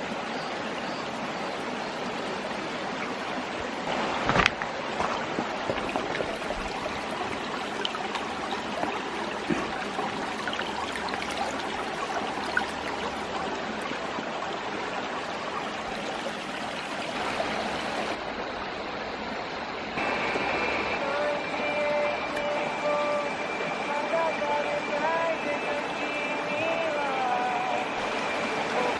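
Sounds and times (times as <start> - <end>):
stream babbling over rocks: 0.0 - 28.9.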